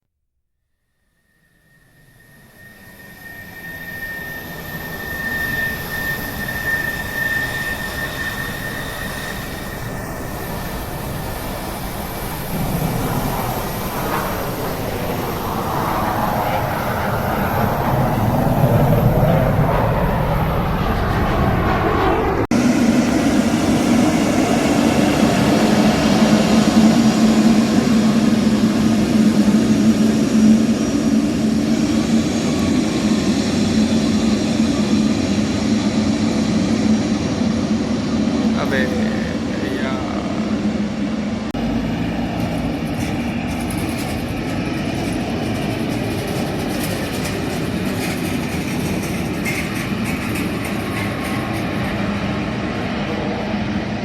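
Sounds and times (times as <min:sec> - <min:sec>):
jet engine whine: 0:00.9 - 0:54.0
low drone: 0:01.3 - 0:46.5
rushing jet noise: 0:01.9 - 0:54.0.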